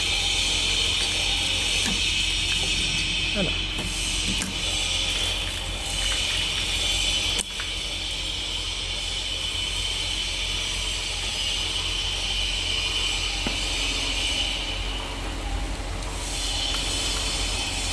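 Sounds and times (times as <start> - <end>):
pump motor humming: 0.0 - 17.9.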